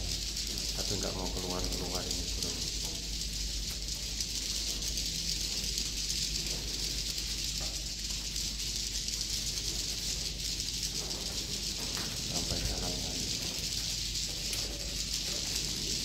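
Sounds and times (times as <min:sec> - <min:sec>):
steady low hum: 0:00.0 - 0:16.0
swiftlets chirping and clicking: 0:00.0 - 0:16.0.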